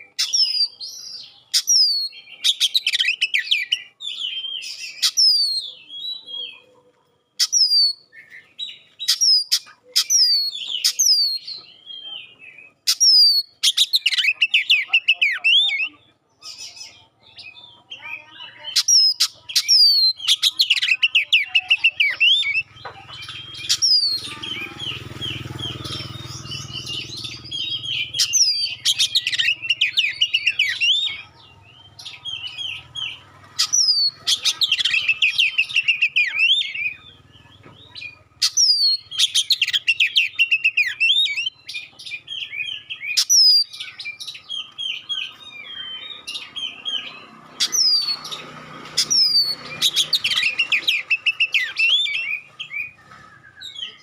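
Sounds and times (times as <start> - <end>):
bird chattering and whistling: 0.0 - 6.8, 7.4 - 54.0.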